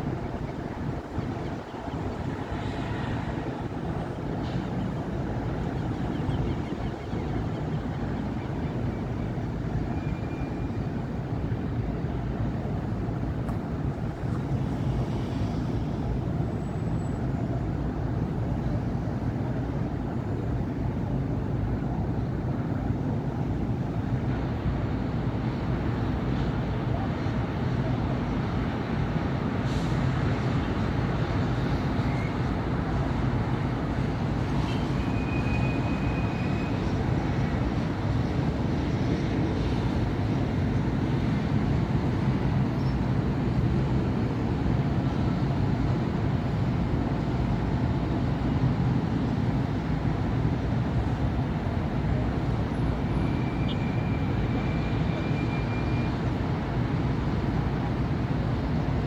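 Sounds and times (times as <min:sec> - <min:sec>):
city traffic rumble: 0:00.0 - 0:59.0.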